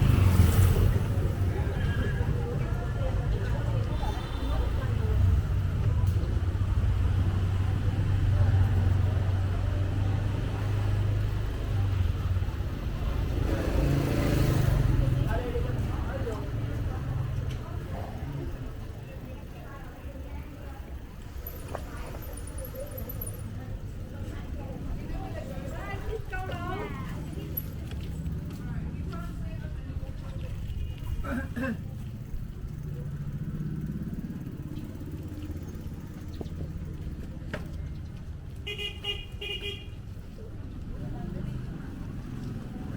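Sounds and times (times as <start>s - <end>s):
street noise: 0.0s - 42.9s
vehicle engine humming: 0.0s - 42.9s.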